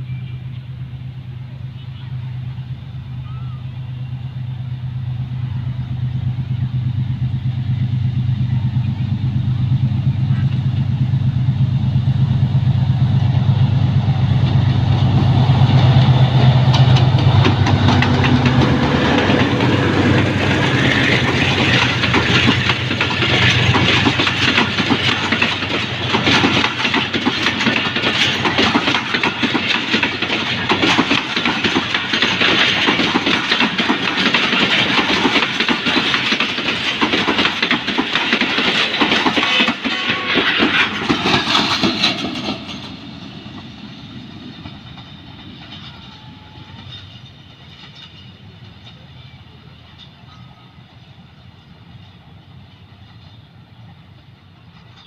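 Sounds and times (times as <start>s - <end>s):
locomotive engine rumble: 0.0s - 55.0s
wheels roaring on rails: 0.0s - 55.0s
wheels clicking over rail joints: 5.5s - 51.1s.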